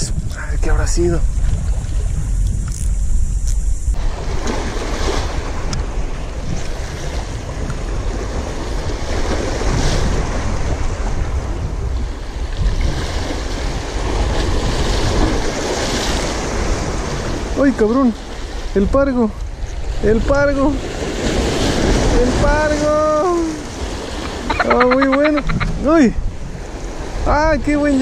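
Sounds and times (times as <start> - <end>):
wind rumbling on microphone: 0.0 - 28.0
waves splashing against rocks: 4.0 - 28.0.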